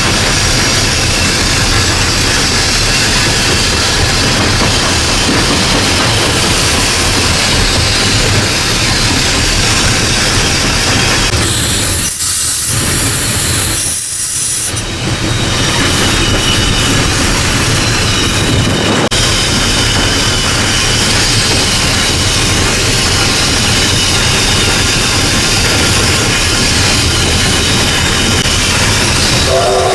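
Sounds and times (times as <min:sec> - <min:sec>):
steam locomotive running: 0:00.0 - 0:29.9.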